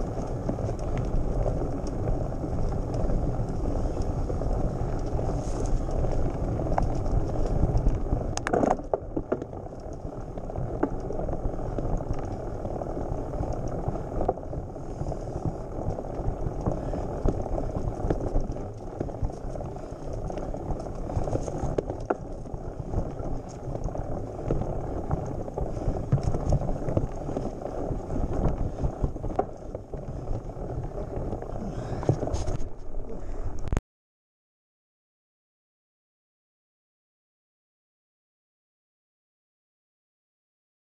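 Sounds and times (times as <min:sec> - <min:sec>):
bike tyres rumbling on gravel: 0:00.0 - 0:33.8.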